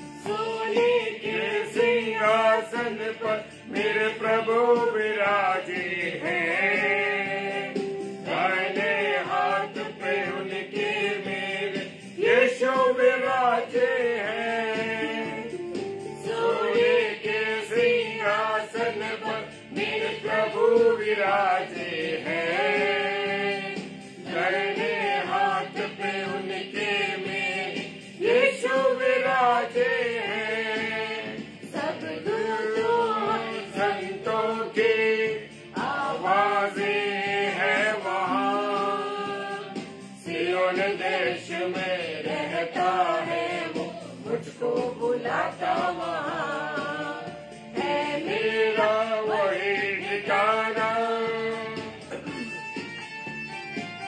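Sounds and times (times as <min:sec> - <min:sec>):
man and woman singing a hymn: 0:00.2 - 0:15.5, 0:16.2 - 0:52.1.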